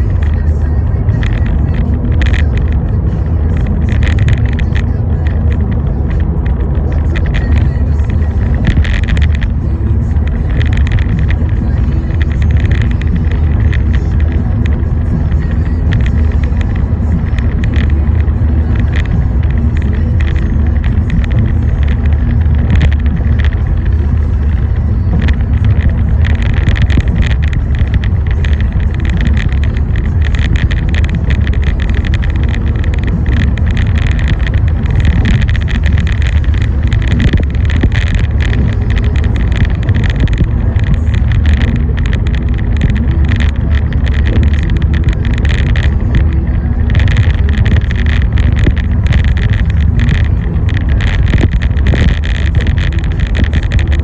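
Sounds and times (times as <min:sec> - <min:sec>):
road and engine rumble: 0:00.0 - 0:54.0
short crackles and ticks: 0:00.0 - 0:54.0.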